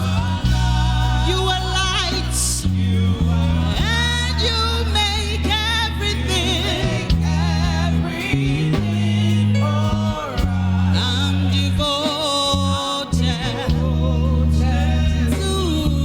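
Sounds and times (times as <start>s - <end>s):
held low instrumental chords: 0.0s - 16.0s
voices singing with vibrato: 0.0s - 16.0s.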